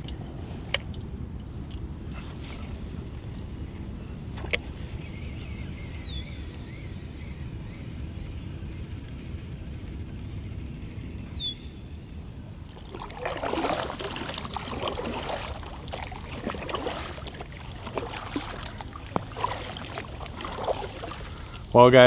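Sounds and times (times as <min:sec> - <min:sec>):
water lapping against kayak hull: 0:00.0 - 0:11.4, 0:12.0 - 0:22.0.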